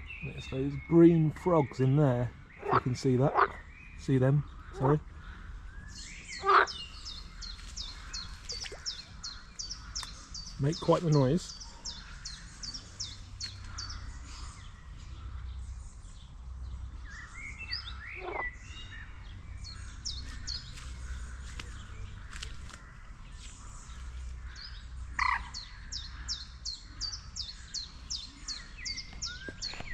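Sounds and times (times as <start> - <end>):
frogs calling: 0.0 - 15.6, 17.0 - 23.2, 23.8 - 29.9
bird chirps: 0.0 - 29.9.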